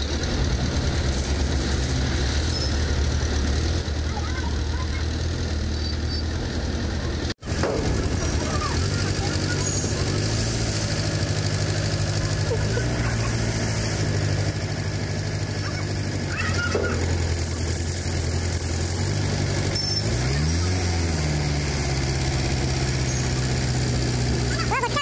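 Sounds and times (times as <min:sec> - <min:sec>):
crane diesel engine running: 0:00.0 - 0:25.0.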